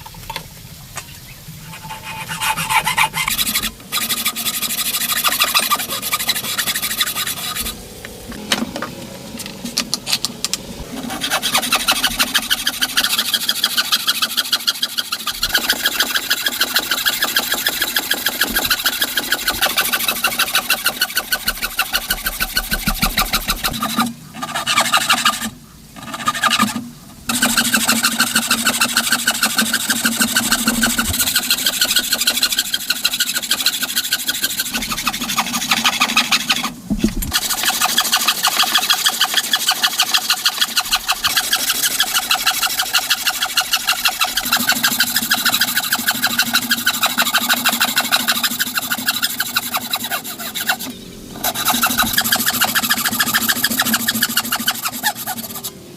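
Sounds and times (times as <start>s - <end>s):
tool sawing or rasping wood: 1.7s - 7.8s, 10.8s - 55.8s.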